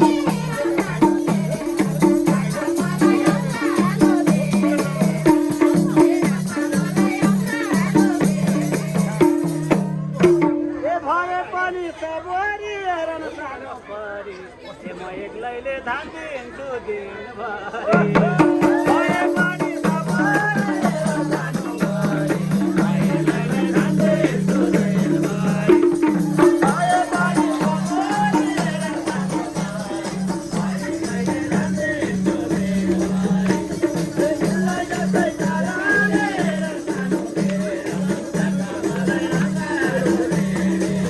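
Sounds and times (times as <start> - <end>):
rattling shaker: 0.0 - 10.4, 18.3 - 41.0
folk music with repeating beat: 0.0 - 10.5, 18.0 - 41.0.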